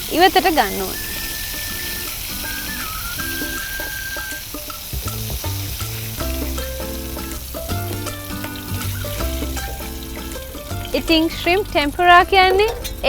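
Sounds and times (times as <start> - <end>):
background music: 0.0 - 13.0
shrimp sizzling in hot oil: 0.0 - 13.0.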